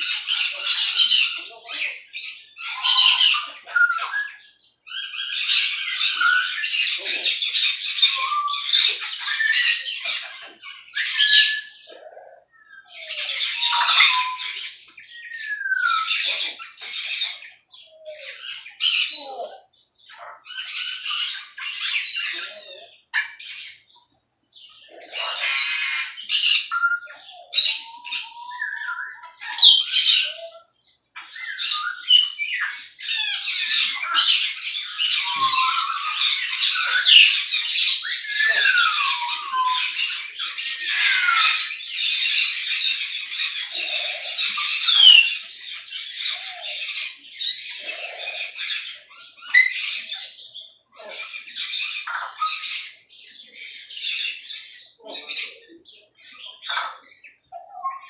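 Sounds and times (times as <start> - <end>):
parrots squawking: 0.0 - 24.0, 24.6 - 58.0.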